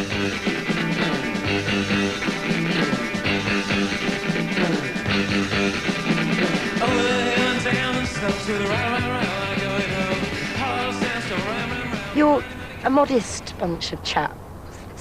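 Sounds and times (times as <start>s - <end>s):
guitar rock music: 0.0s - 13.2s.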